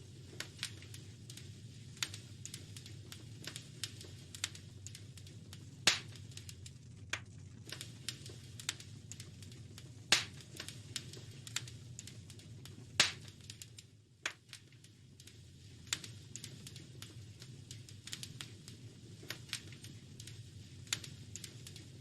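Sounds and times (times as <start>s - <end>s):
low steady rumble: 0.0s - 22.0s
wood fire crackling: 0.0s - 22.0s.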